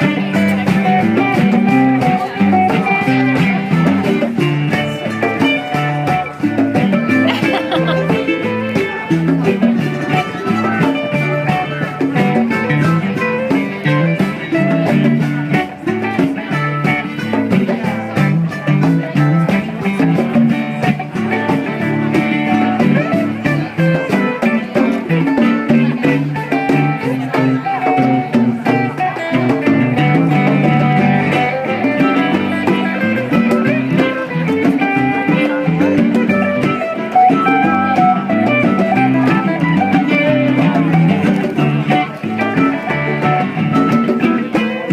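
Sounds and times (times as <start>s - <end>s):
guitar playing: 0.0s - 44.9s
hand percussion beat: 0.0s - 44.9s
live blues-rock band playing: 0.0s - 44.9s.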